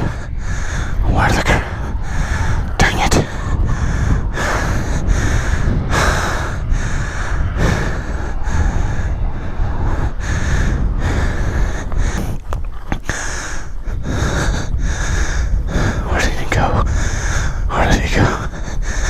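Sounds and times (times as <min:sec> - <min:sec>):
man panting heavily: 0:00.0 - 0:12.4, 0:13.0 - 0:19.0.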